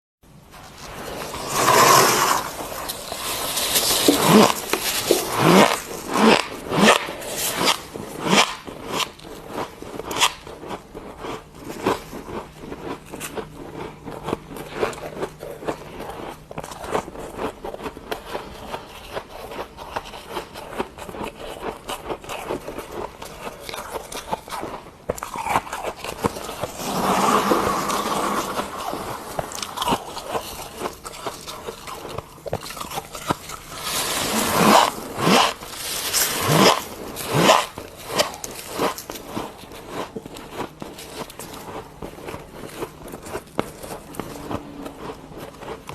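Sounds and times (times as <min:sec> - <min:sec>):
frost being chewed: 0:00.6 - 0:45.9.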